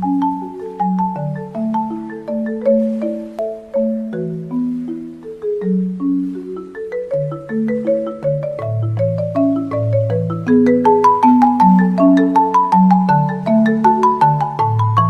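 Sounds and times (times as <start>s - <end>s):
mallet percussion melody: 0.0s - 15.0s.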